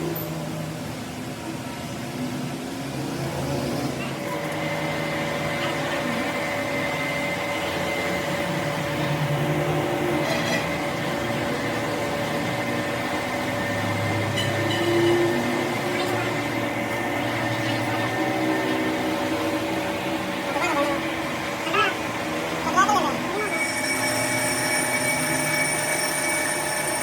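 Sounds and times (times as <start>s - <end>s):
machinery whining: 3.9s - 27.0s.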